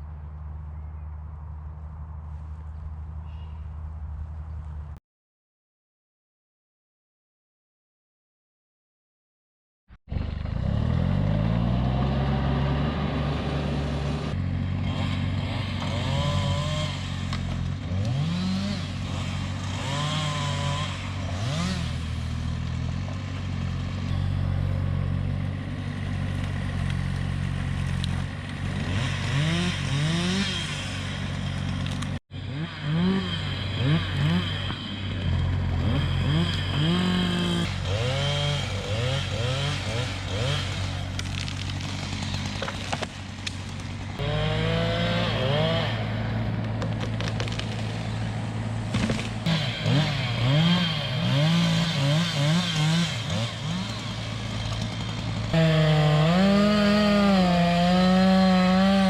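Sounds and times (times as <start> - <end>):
engine revving: 10.1 - 59.0.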